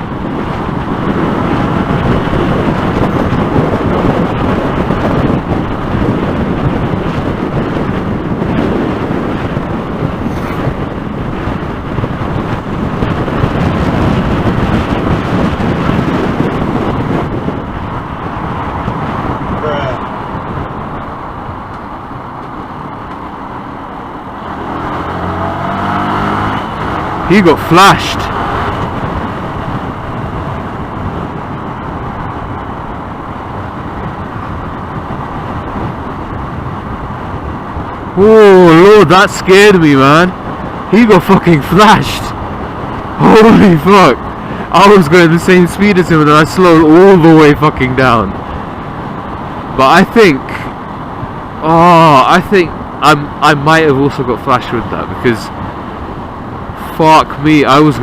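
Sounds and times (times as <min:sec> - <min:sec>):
road noise: 0:00.0 - 0:58.0
wind buffeting helmet microphone: 0:00.0 - 0:58.0.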